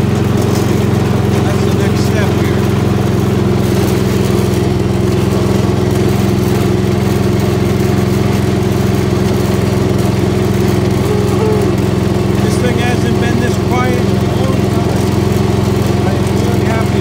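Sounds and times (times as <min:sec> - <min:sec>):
garden tractor engine running: 0:00.0 - 0:17.0.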